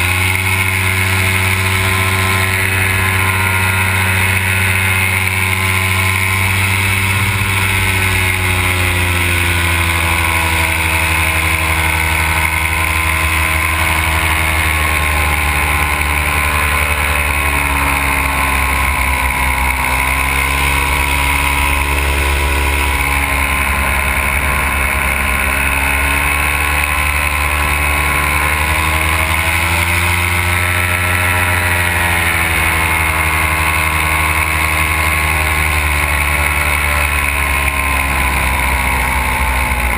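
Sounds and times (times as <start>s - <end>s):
two-stroke engine and propeller: 0.0s - 39.9s.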